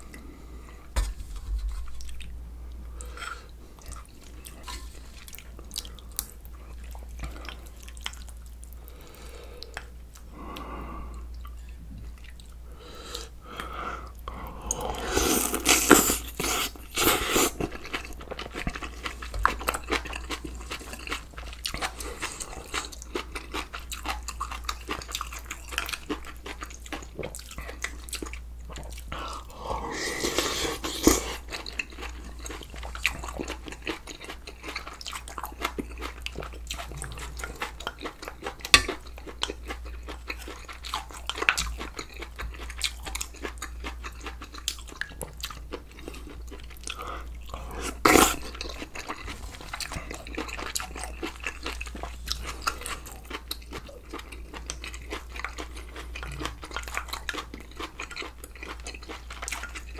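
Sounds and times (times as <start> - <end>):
man chewing and crunching: 0.0 - 59.9.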